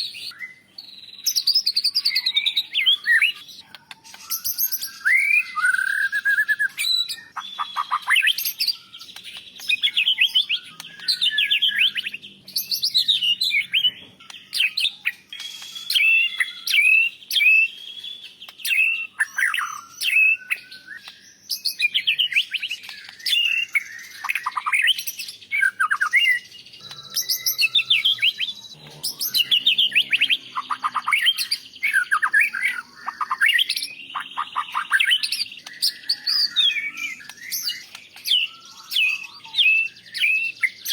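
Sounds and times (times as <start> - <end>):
songbird whistles and trills: 0.0 - 40.9.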